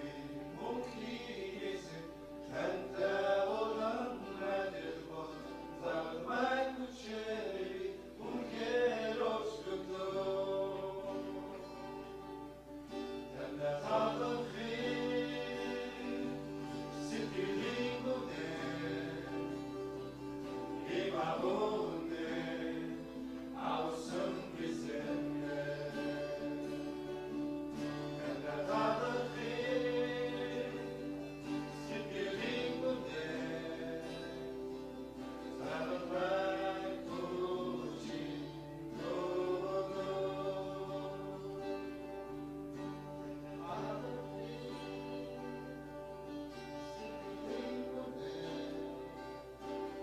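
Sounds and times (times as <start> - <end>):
voices singing together: 0.0 - 50.0.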